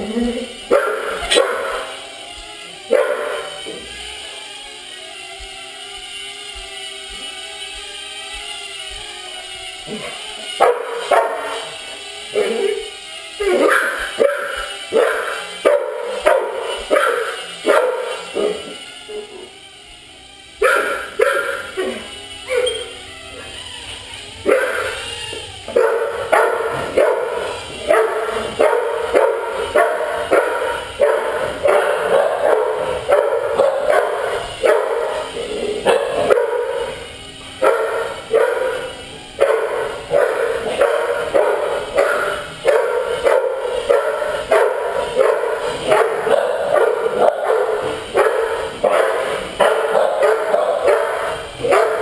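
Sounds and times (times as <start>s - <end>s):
dogs barking: 0.0s - 19.7s, 20.4s - 52.0s.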